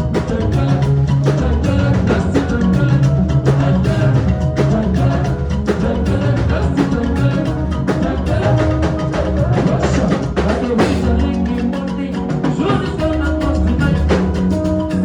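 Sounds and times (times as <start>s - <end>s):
loud music with drums and bass: 0.0s - 15.0s.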